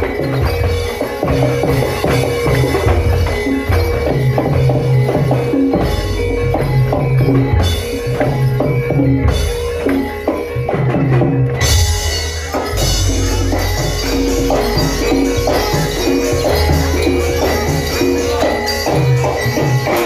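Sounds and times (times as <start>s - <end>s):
drums and percussion beat: 0.0s - 20.0s
ringing pitched tones: 0.0s - 20.0s.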